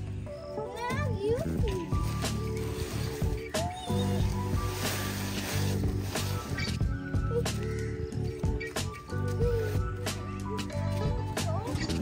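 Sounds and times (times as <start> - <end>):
background music with regular beat: 0.0 - 12.0.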